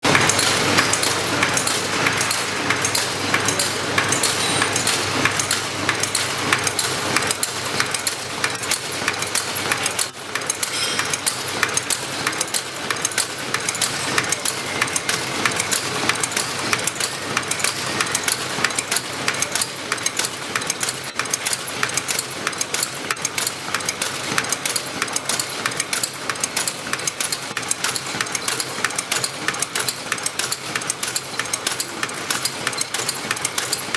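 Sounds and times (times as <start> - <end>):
machine clatter: 0.0 - 33.9
fast even clicking: 0.1 - 33.9.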